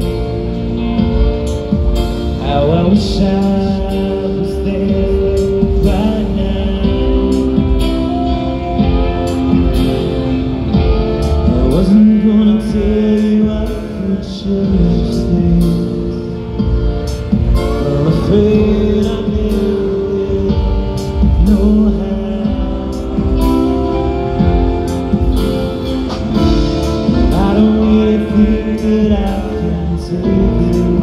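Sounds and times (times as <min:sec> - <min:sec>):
live rock band playing: 0:00.0 - 0:31.0
person singing: 0:00.0 - 0:31.0.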